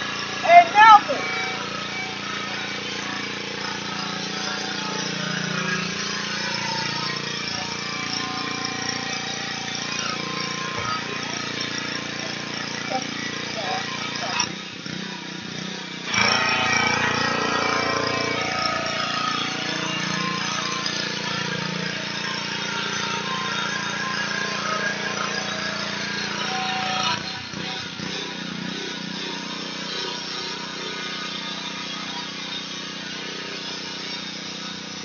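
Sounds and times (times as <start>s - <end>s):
pressure washer motor hum: 0.0s - 35.0s.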